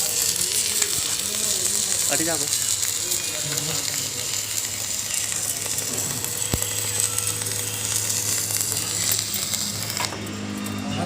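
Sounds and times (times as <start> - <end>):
welding arc crackling sizzle: 0.0 - 11.0.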